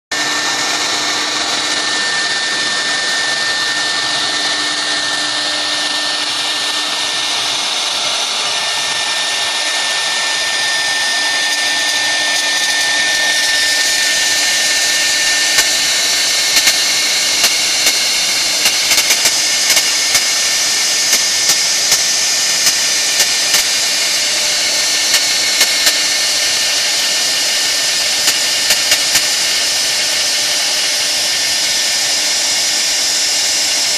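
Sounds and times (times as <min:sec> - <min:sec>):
cutter rushing through wood: 0:00.1 - 0:33.9
router spindle whine: 0:00.1 - 0:33.9.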